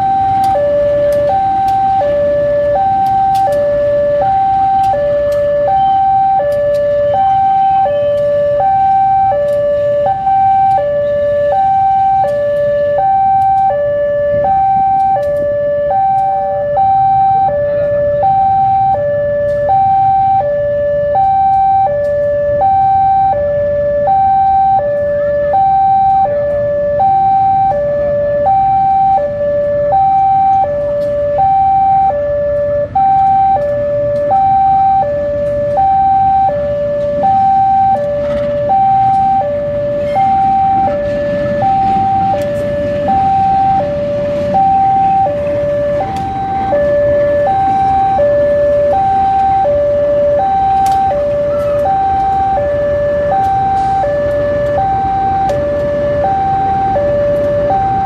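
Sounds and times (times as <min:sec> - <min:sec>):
level crossing two-tone alarm: 0:00.0 - 0:58.0
locomotive rumble: 0:00.0 - 0:58.0.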